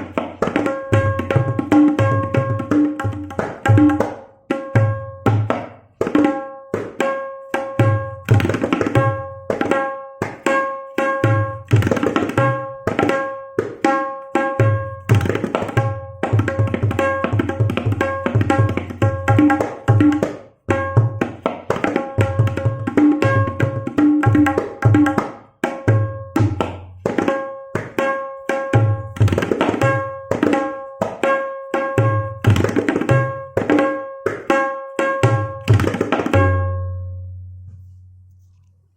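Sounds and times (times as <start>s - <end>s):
tabla sharp strokes: 0.0s - 38.9s.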